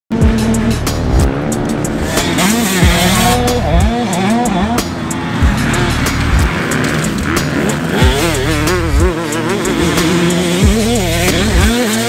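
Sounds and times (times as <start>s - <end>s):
dirt bike engine revving: 0.1s - 12.0s.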